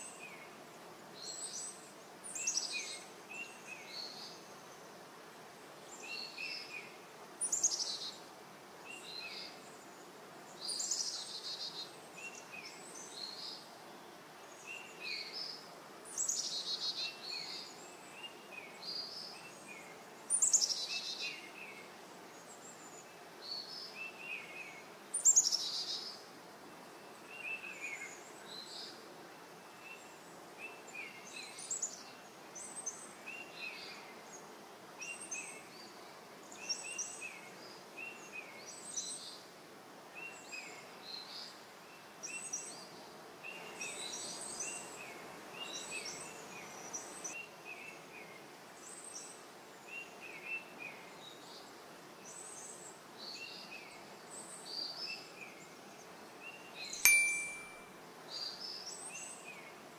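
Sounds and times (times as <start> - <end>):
faint outdoor hiss: 0.0 - 59.9.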